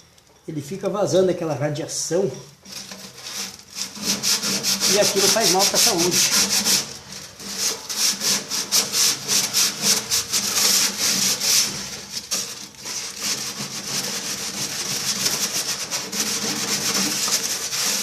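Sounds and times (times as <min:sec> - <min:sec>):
scrubbing rust off metal: 0:02.6 - 0:18.0.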